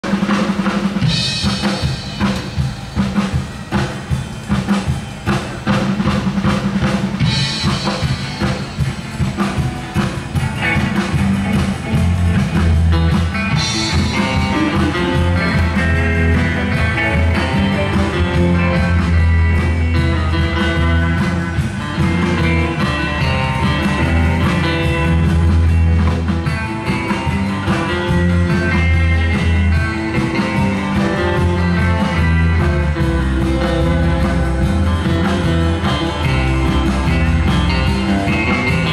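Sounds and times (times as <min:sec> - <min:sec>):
busy drumming: 0:00.0 - 0:38.9
live rock band playing: 0:00.0 - 0:38.9
bass line: 0:01.0 - 0:38.9.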